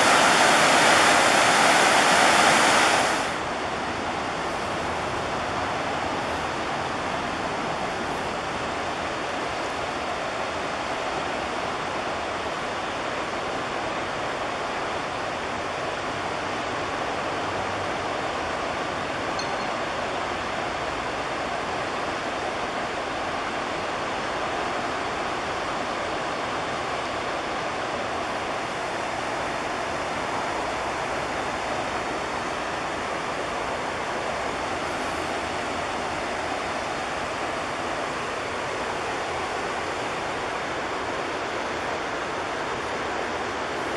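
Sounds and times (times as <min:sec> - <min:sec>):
river rushing over stones: 0:00.0 - 0:43.9.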